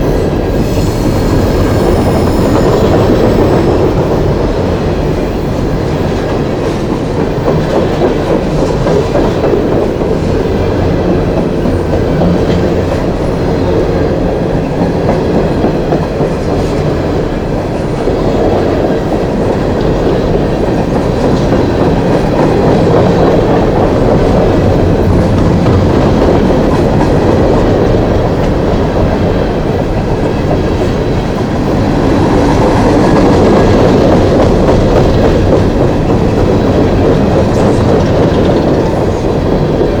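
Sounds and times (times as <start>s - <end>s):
train wheels rolling on rails: 0.0s - 40.0s.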